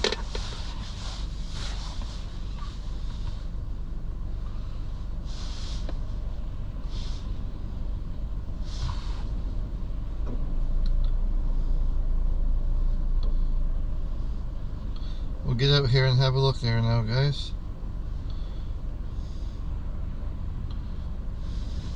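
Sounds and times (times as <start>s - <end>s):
car engine and road rumble: 0.0s - 21.9s.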